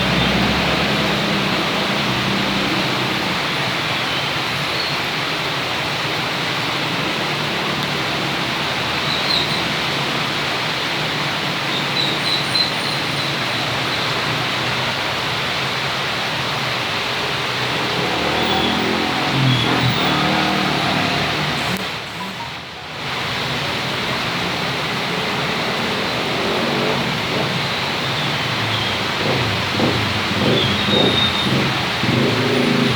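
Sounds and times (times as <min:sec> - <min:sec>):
heavy rain pouring: 0:00.0 - 0:32.9.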